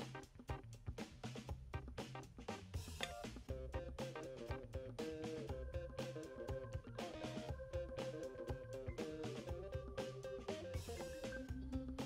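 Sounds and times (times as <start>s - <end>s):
music with drums and guitar: 0.0s - 12.0s.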